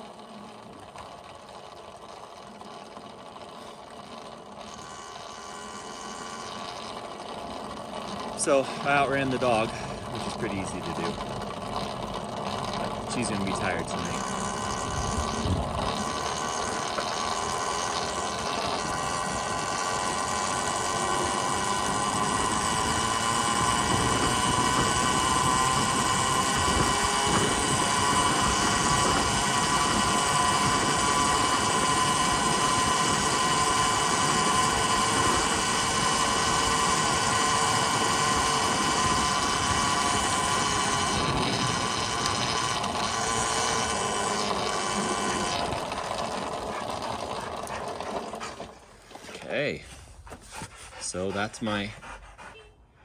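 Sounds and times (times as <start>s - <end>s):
electric motorcycle motor whine: 0.0s - 49.8s.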